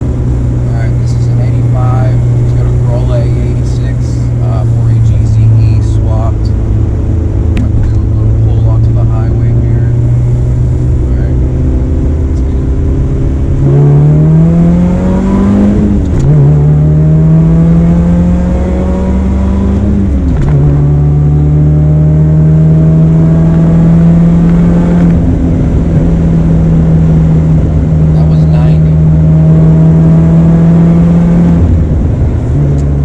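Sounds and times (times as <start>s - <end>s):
car engine accelerating hard: 0.0s - 33.0s
supercharger whine: 0.0s - 33.0s.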